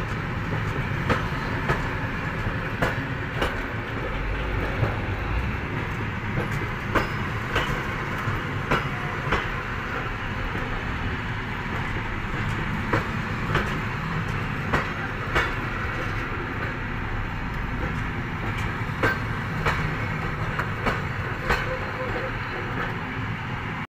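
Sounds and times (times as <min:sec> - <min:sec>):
train wheels clicking over rail joints: 0:00.0 - 0:23.1
train rumbling past: 0:00.0 - 0:23.9.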